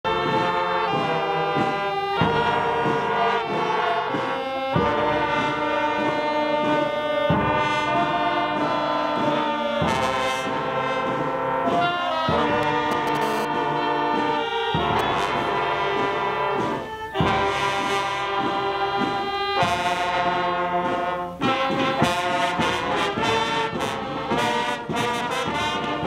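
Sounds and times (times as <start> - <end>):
brass band playing a hymn: 0.0 - 26.0.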